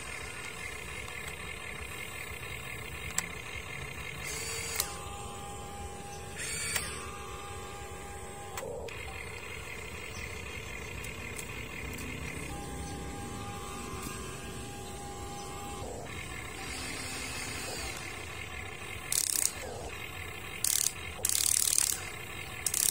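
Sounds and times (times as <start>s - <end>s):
sharp clicks: 0.0s - 5.1s, 6.1s - 7.2s, 8.4s - 14.3s, 15.4s - 22.9s
electric motors whining: 0.0s - 22.9s.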